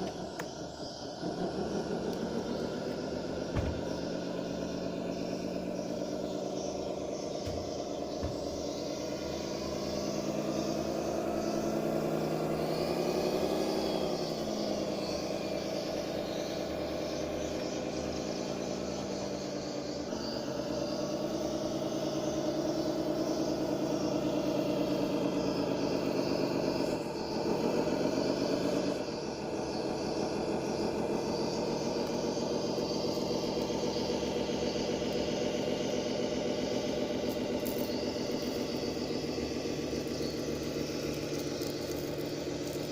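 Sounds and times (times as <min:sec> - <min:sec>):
model bulldozer motor drone: 0:00.0 - 0:42.9.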